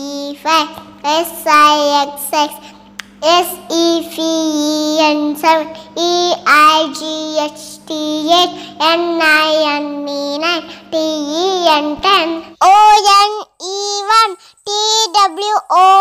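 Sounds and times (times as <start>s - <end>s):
faint low hum: 0.0s - 16.0s
girl singing sing-song: 0.0s - 16.0s.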